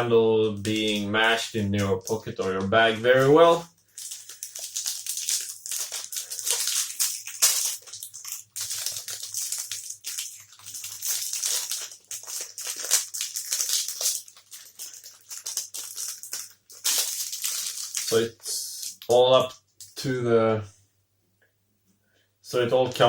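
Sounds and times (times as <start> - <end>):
plastic wrapper crinkling: 0.5 - 19.1.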